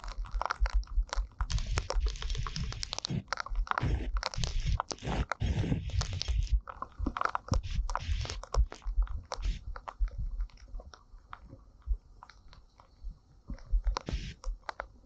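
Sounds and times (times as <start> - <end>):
rain tapping on camera: 0.0 - 12.7, 13.5 - 15.0.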